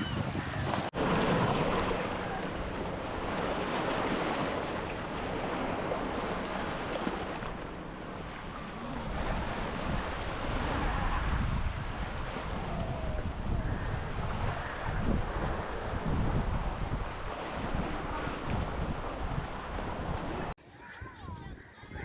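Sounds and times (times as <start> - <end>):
sea waves washing on beach: 0.0 - 20.7
wind buffeting microphone: 0.0 - 22.0.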